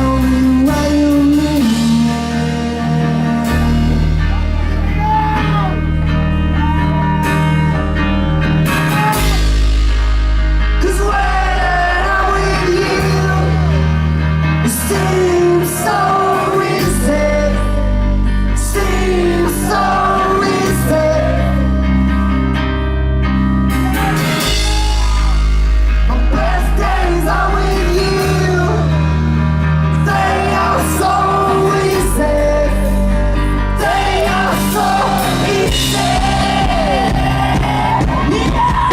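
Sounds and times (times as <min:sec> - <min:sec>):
person singing: 0:00.0 - 0:08.0, 0:10.8 - 0:22.4, 0:23.7 - 0:38.9
bass held notes: 0:00.0 - 0:38.9
rock band playing: 0:00.0 - 0:38.9.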